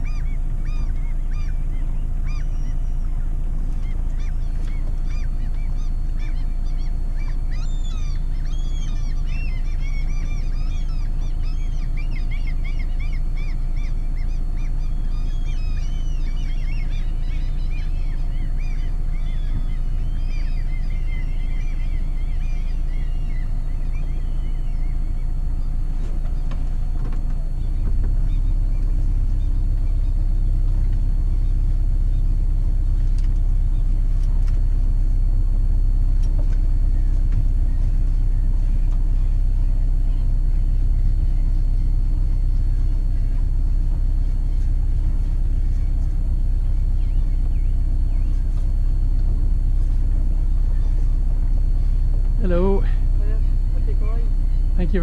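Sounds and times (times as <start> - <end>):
birds chirping: 0.0 - 55.0
boat engine running: 0.0 - 55.0.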